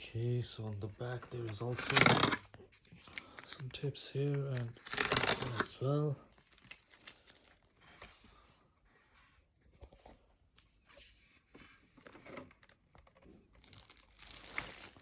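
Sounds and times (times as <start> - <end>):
faint plastic rustles and clicks: 0.0 - 15.0.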